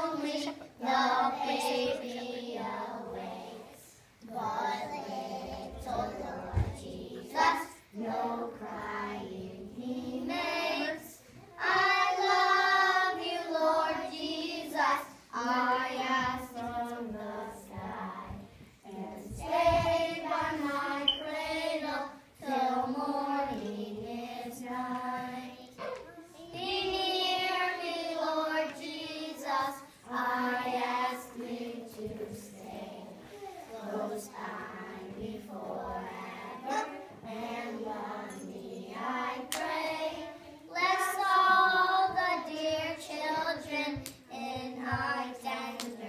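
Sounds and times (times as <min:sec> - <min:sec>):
children singing: 0:00.0 - 0:46.0.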